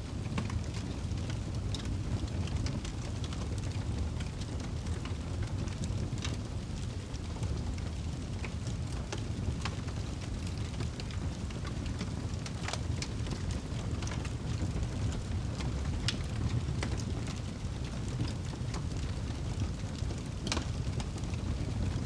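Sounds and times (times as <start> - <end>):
fire crackles and pops: 0.0 - 22.0
fireplace fire rumble: 0.0 - 22.0.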